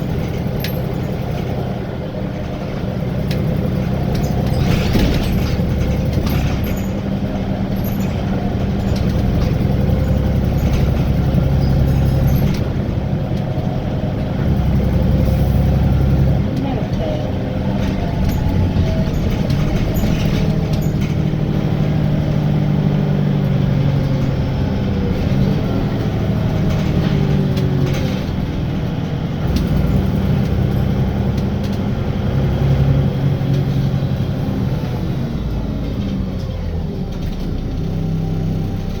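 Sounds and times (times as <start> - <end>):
bus diesel engine hum: 0.0 - 39.0
rattles and clicks from bus body: 0.0 - 39.0
tyre and road noise: 0.0 - 39.0.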